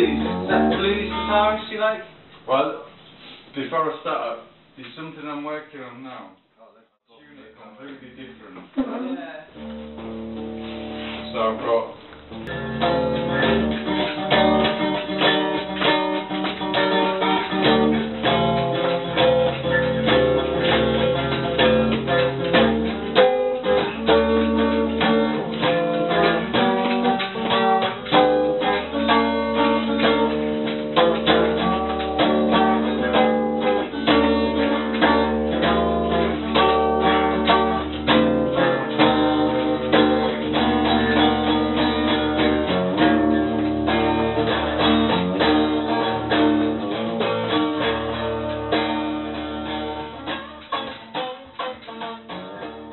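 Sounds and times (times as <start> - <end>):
guitar playing: 0.0 - 2.1, 8.8 - 52.9.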